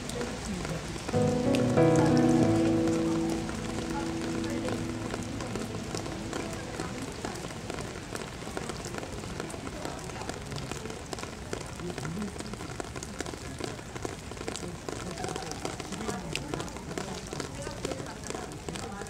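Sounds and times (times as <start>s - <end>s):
rain on wet pavement: 0.0s - 19.0s.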